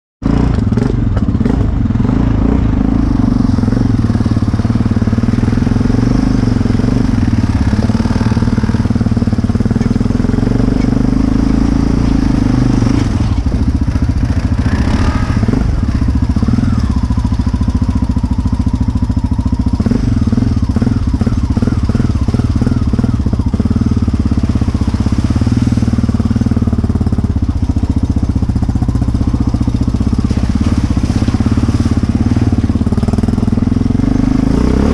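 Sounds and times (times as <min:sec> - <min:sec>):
atv engine running: 0:00.2 - 0:34.9.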